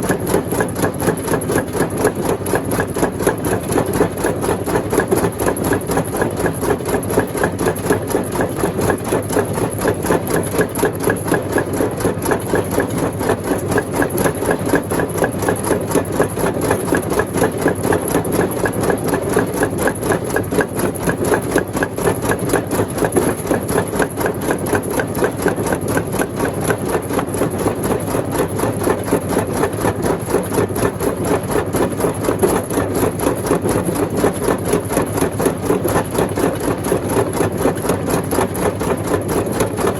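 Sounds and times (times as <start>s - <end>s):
stone crusher machine running: 0.0s - 39.9s.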